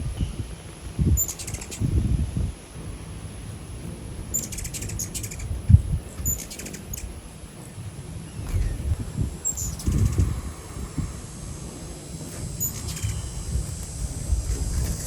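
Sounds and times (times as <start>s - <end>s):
hummingbird chittering calls: 0.0s - 15.0s
hummingbird wings whirring: 0.0s - 15.0s.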